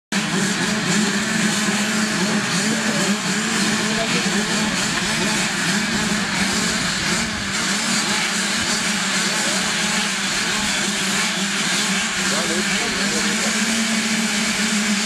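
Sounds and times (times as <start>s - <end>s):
motocross bikes revving: 0.1s - 15.0s.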